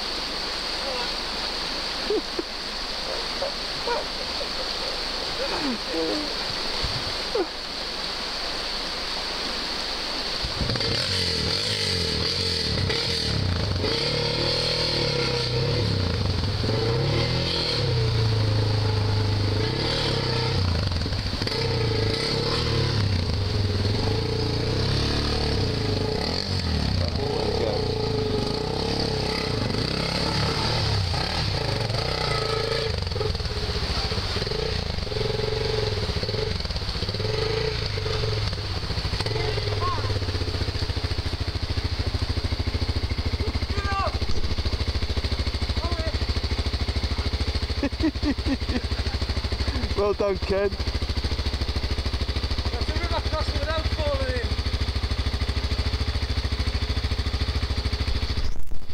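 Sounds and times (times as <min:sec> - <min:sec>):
water rushing and splashing: 0:00.0 - 0:58.9
dirt bike engine revving: 0:10.4 - 0:58.5.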